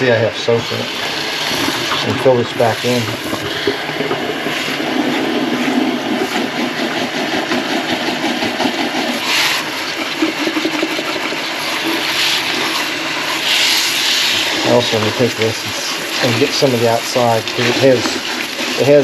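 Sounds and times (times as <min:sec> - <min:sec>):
faucet water running: 0:00.0 - 0:19.0
water splashing: 0:00.0 - 0:19.0.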